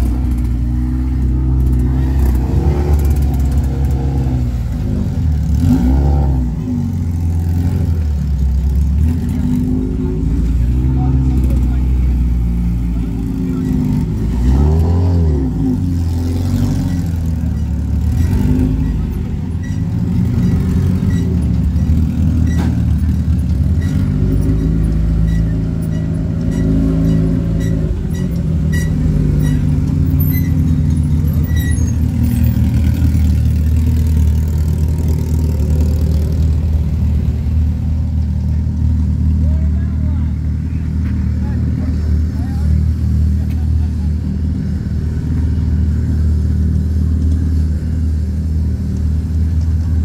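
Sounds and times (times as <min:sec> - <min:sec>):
off-road vehicle engines revving: 0:00.0 - 0:50.0.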